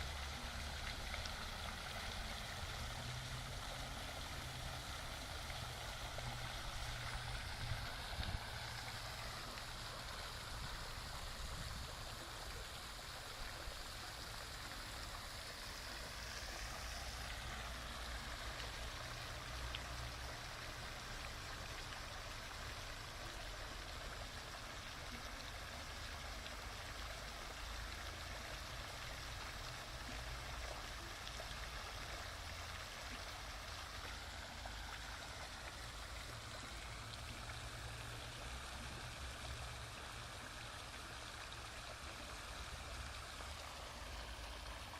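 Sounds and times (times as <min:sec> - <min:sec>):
rushing flowing water: 0:00.0 - 0:44.9.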